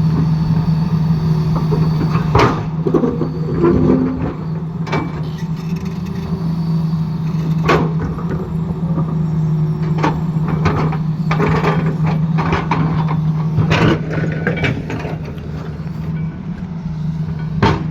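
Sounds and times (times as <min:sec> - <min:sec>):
excavator diesel engine running: 0:00.0 - 0:17.9.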